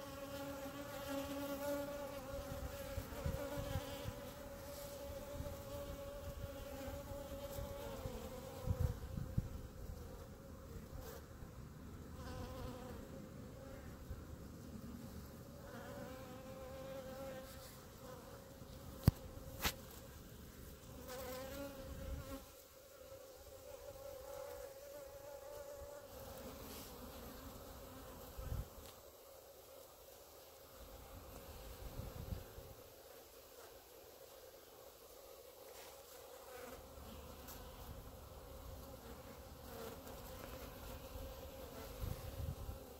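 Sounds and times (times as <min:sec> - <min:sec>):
honeybees buzzing: 0:00.0 - 0:11.4, 0:14.8 - 0:29.9, 0:30.8 - 0:42.9.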